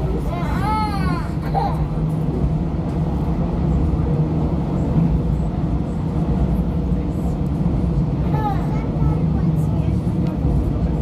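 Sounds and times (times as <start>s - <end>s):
low drone inside train carriage: 0.0s - 11.0s
wheels rumbling on track: 0.0s - 11.0s.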